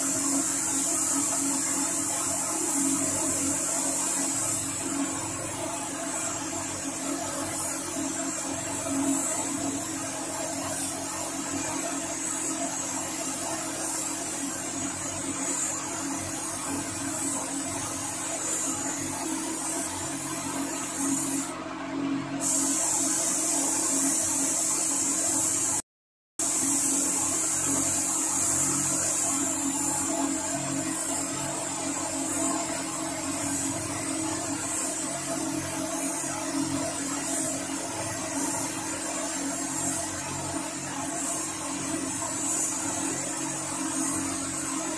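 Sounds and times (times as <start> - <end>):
spray gun hissing: 0.0 - 21.6, 22.4 - 25.8, 26.4 - 44.9.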